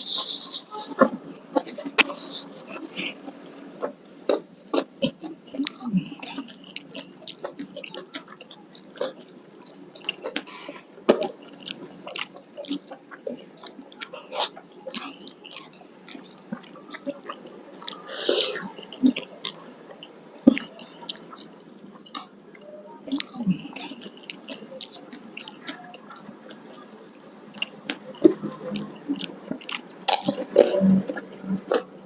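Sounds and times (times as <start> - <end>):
chewing and biting food: 1.6 - 22.4, 23.1 - 32.0.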